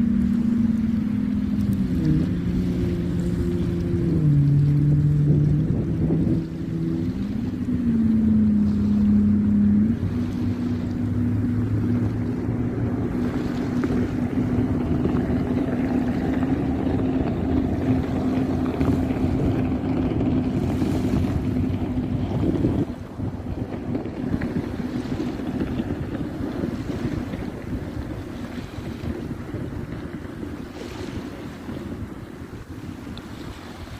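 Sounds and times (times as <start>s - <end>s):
motor hum: 0.0s - 33.9s
wind noise on microphone: 0.0s - 33.9s.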